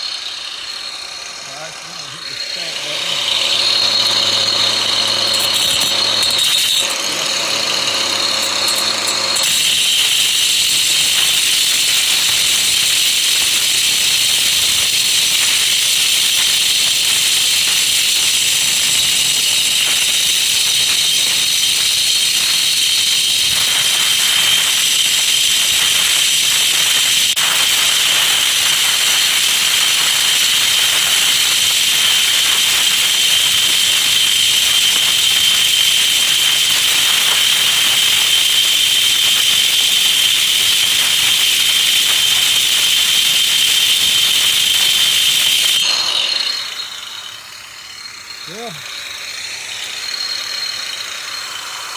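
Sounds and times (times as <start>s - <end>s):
electric grinder whining: 0.0s - 51.9s.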